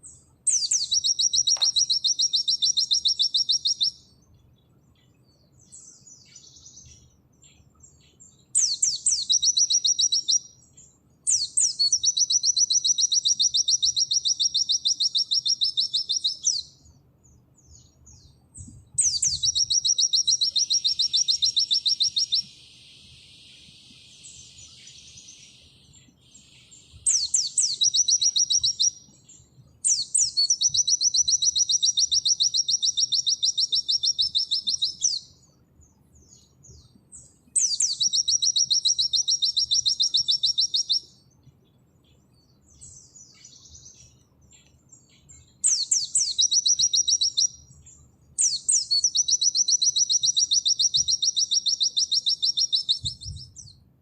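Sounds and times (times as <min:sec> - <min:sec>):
white-eye singing rapid trills: 0:00.0 - 0:04.1, 0:05.7 - 0:10.7, 0:11.3 - 0:16.9, 0:19.0 - 0:36.6, 0:37.2 - 0:41.2, 0:42.7 - 0:53.6.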